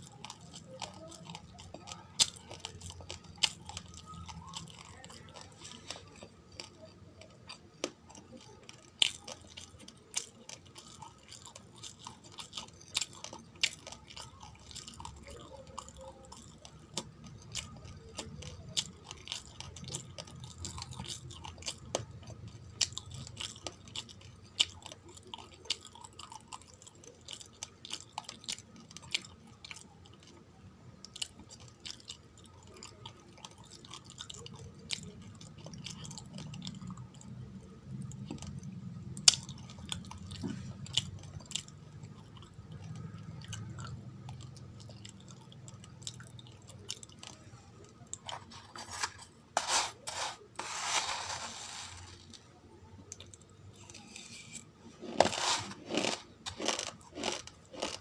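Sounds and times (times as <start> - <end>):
chewing dry rice crunches: 0.0 - 58.0.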